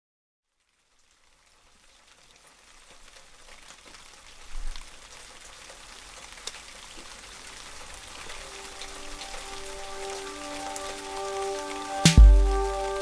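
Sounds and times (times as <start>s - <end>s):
rain patter: 0.4s - 13.0s.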